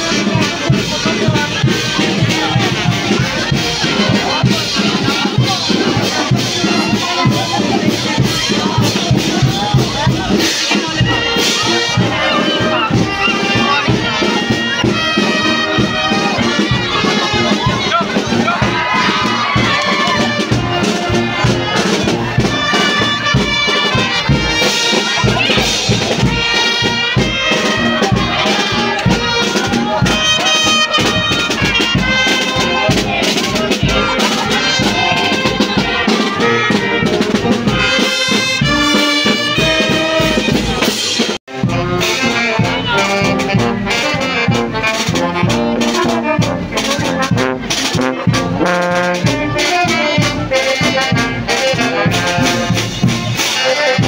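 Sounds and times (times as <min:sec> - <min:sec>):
brass band playing a march: 0:00.0 - 0:54.0.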